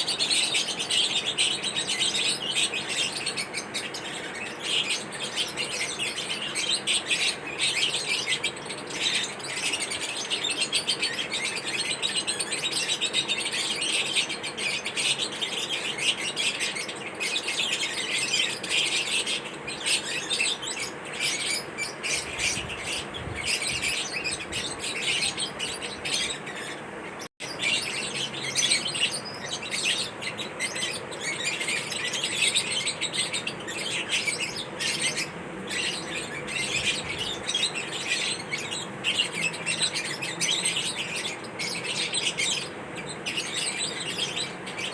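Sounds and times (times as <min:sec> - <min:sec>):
parrots chirping: 0:00.0 - 0:44.9.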